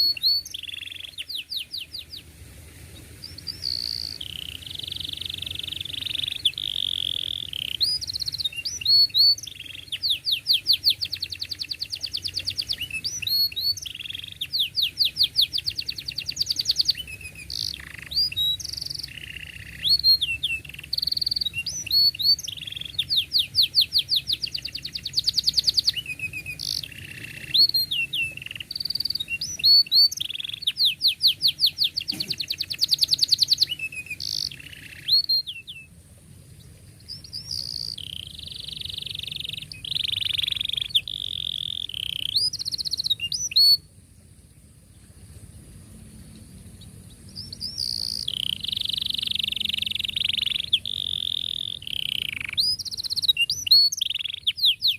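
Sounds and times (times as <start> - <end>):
canary singing: 0.0 - 2.3, 3.0 - 35.9, 37.0 - 43.9, 46.8 - 54.9.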